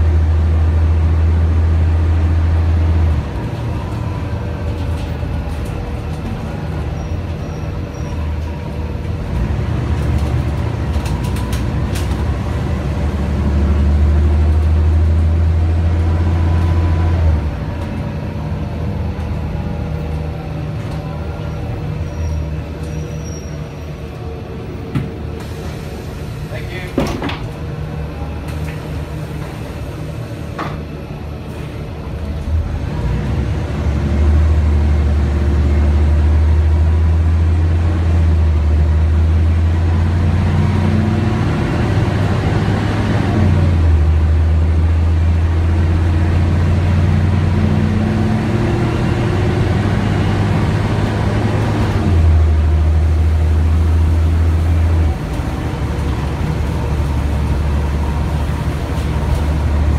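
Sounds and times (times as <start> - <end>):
bus engine pulling: 0.0 - 59.9.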